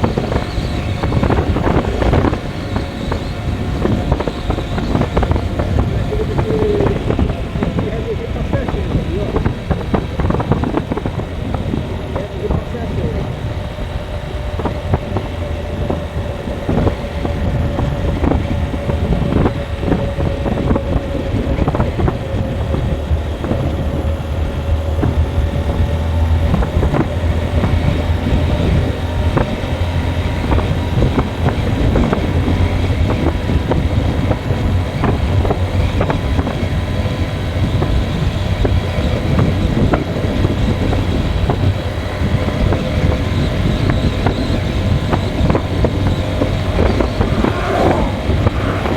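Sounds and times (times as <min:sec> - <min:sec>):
road noise: 0:00.0 - 0:38.8, 0:40.9 - 0:48.9
vehicle engine hum: 0:00.0 - 0:48.9.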